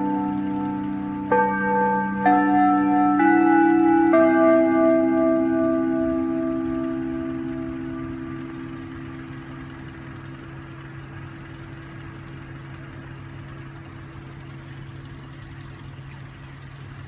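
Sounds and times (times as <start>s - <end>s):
low held tones humming: 0.0s - 17.0s.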